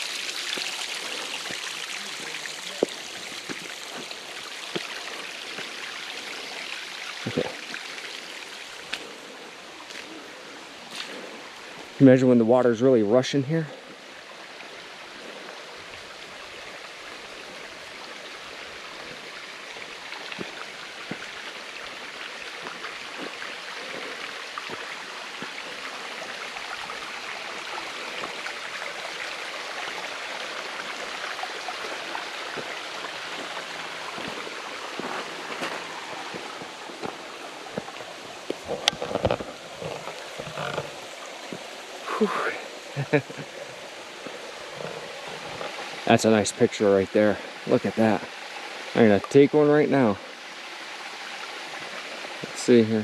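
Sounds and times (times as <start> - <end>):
creek water running over rocks: 0.0 - 53.0.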